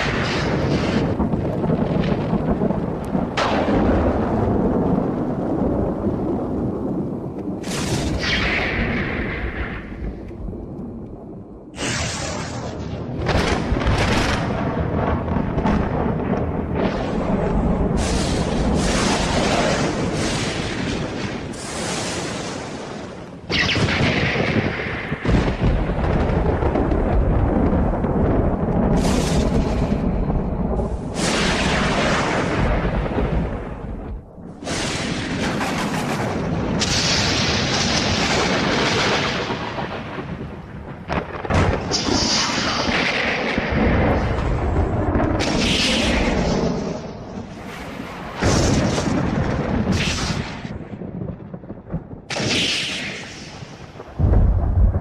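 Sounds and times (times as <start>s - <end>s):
thunder cracks: 0.0s - 55.0s
thunder rumbling: 0.0s - 55.0s.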